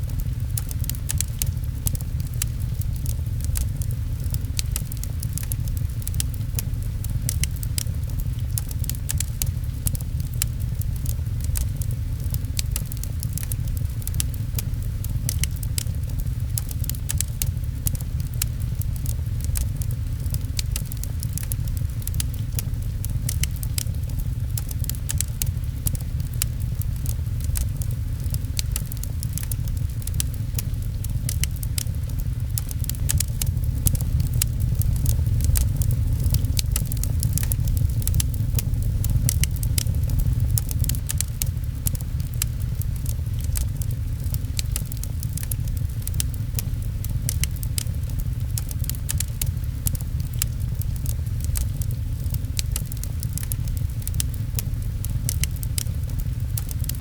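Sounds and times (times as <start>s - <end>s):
fireplace crackling: 0.0s - 57.0s
rain rumbling: 0.0s - 57.0s.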